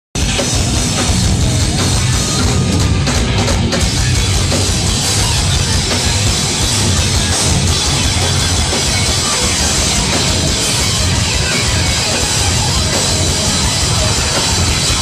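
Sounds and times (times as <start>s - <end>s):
distorted electric guitars: 0.2s - 15.0s
pounding drum kit: 0.2s - 15.0s.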